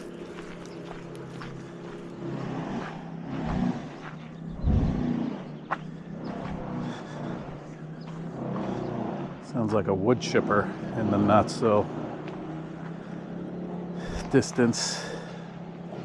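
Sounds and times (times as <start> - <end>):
wood chipper engine running: 0.0 - 16.0.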